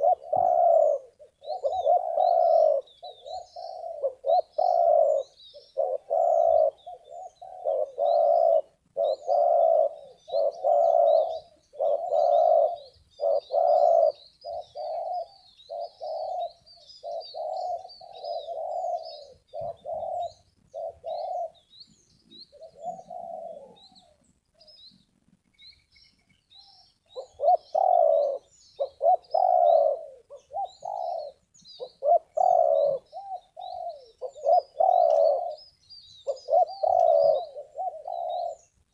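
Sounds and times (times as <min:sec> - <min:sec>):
doves cooing: 0:00.0 - 0:24.7, 0:26.6 - 0:38.9
small birds chirping: 0:00.0 - 0:38.9.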